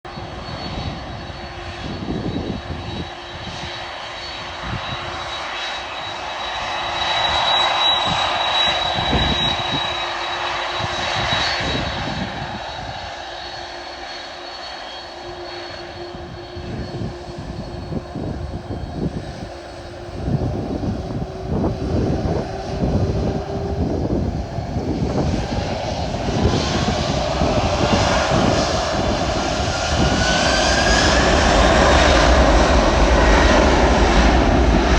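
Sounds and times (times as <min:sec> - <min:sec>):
jet engines whining and rumbling: 0:00.0 - 0:34.9.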